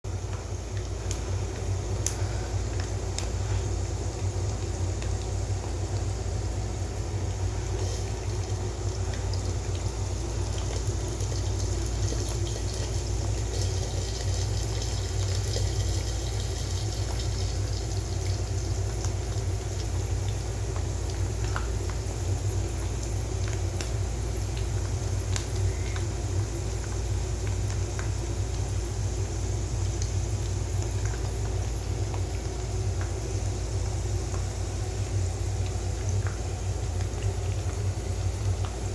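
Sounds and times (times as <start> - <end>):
constant low hum: 0.1 - 38.9
faint drips: 0.1 - 38.9.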